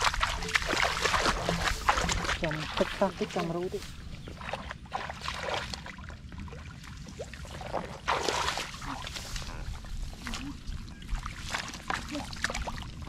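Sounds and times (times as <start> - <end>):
shallow water splashing: 0.0 - 13.0.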